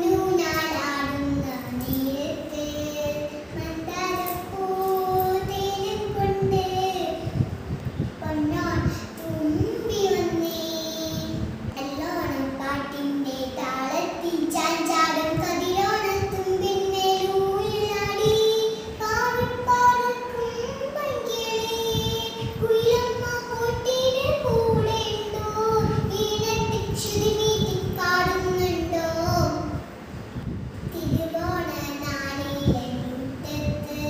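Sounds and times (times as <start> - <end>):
girl singing: 0.0 - 29.9, 30.8 - 34.0.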